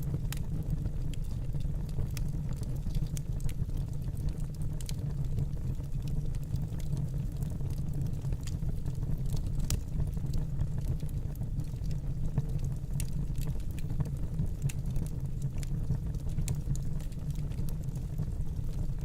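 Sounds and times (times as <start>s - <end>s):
burning logs crackling and popping: 0.0s - 19.0s
flames rumbling in fireplace: 0.0s - 19.0s.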